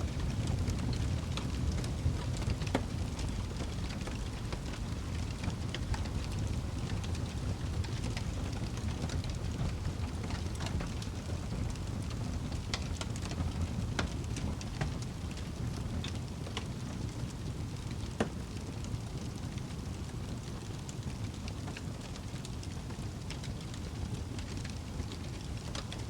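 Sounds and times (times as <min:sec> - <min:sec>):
fire crackles and pops: 0:00.0 - 0:26.0
fire flames rumbling: 0:00.0 - 0:26.0.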